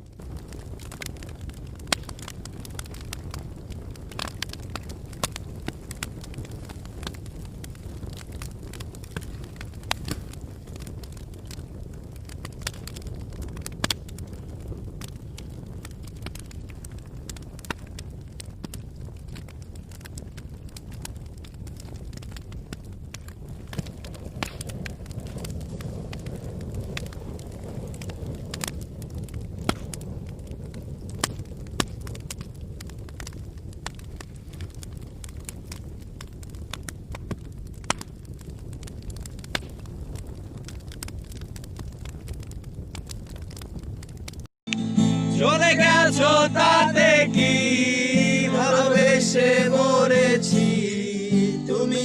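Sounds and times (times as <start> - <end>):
fire crackling and popping: 0.0 - 52.0.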